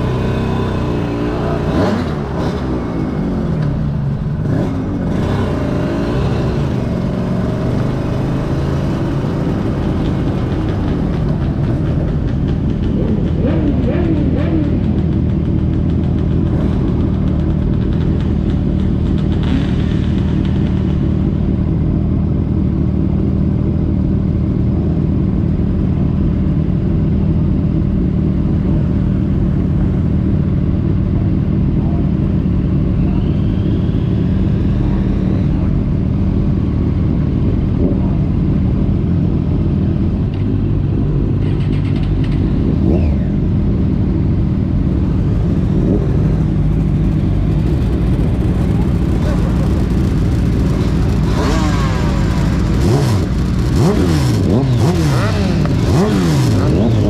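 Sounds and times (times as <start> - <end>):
racing motorcycle engine revving: 0.0 - 57.0.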